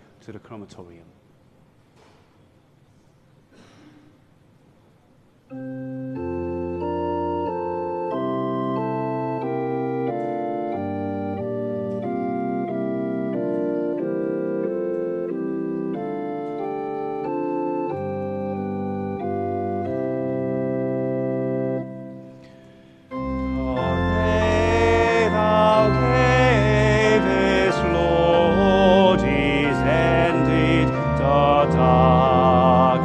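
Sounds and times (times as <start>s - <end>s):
church organ playing chords: 5.5s - 33.0s.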